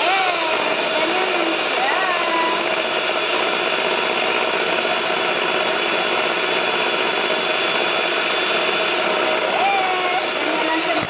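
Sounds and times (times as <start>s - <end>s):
electric hand mixer whipping: 0.0s - 11.0s.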